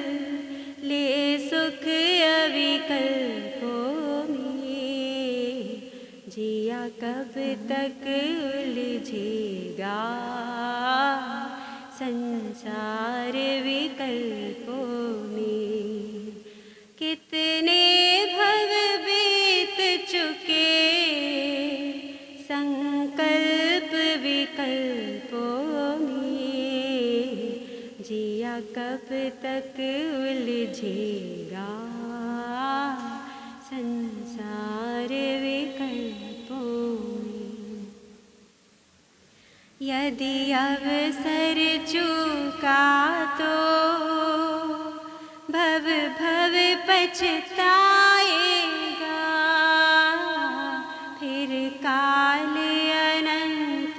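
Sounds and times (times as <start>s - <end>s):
woman singing devotional song: 0.0s - 38.4s, 39.4s - 53.9s.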